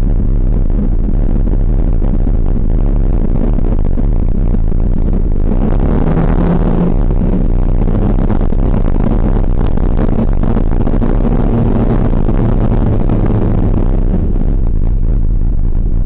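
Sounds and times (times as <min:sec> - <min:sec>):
motorcycle engine drone: 0:00.0 - 0:16.0
wind rush on microphone: 0:00.0 - 0:16.0.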